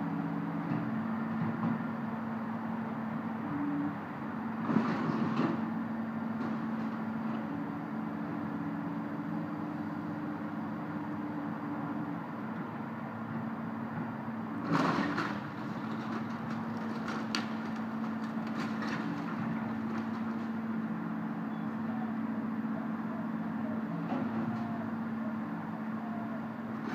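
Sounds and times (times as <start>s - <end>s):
diesel excavator engine running: 0.0s - 26.9s.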